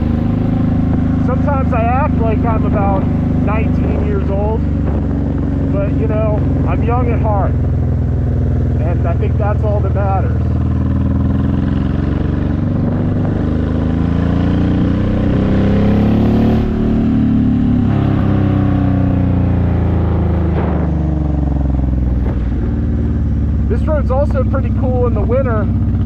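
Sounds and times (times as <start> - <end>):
motorcycle engine while riding: 0.0 - 26.0.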